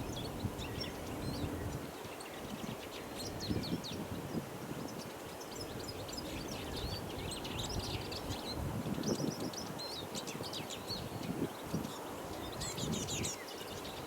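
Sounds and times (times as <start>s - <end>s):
bird twittering song: 0.0s - 14.0s
low rustling wind: 0.0s - 14.0s.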